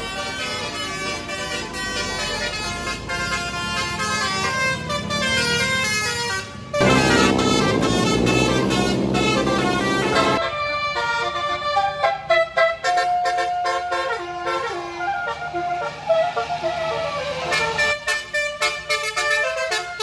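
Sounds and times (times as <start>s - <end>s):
bus multi-tone horn melody: 0.0s - 20.0s.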